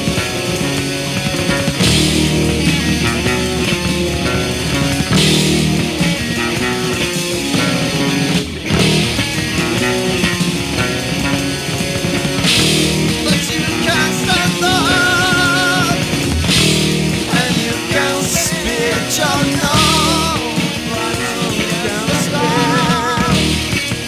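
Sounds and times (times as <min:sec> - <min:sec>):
high bending lead melody: 0:00.0 - 0:24.0
rock band playing: 0:00.0 - 0:24.0
cymbal crashes: 0:00.2 - 0:20.9.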